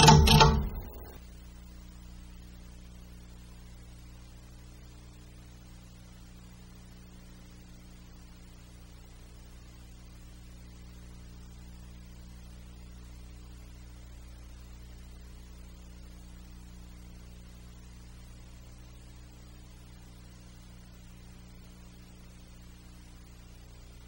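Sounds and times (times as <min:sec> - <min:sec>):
constant hiss: 0:00.0 - 0:24.0
low electrical hum: 0:00.0 - 0:24.0.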